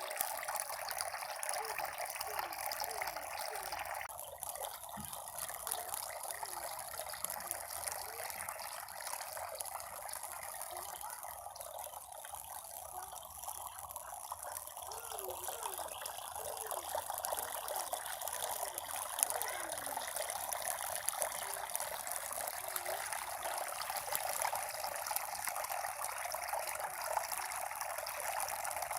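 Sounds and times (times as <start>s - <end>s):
water trickling and splashing: 0.0s - 28.9s.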